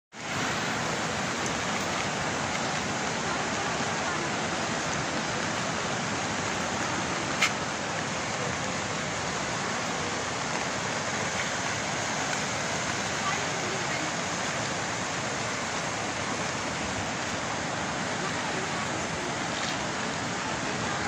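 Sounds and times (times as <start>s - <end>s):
rushing water: 0.1s - 21.0s.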